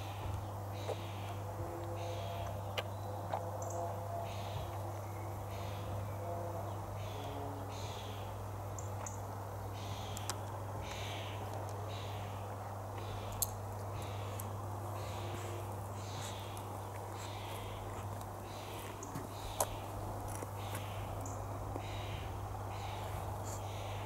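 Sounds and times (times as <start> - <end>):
background hiss: 0.0 - 24.0
faint bird calls: 0.0 - 24.0.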